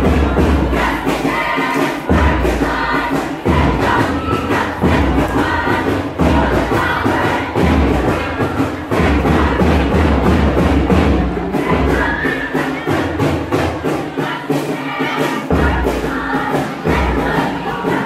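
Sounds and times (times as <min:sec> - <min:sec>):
cheer squad chanting in unison: 0:00.0 - 0:18.0.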